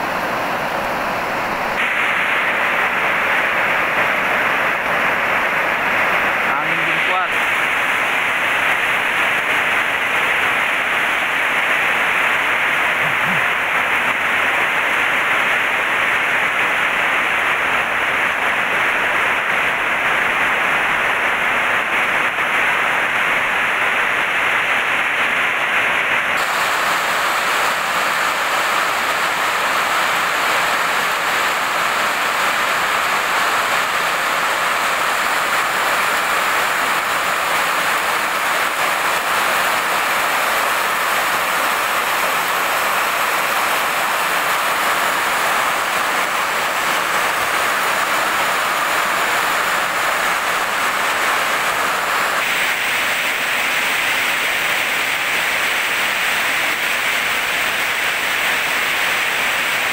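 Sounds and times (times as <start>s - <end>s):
heavy rain on metal roofs: 0.0s - 59.9s.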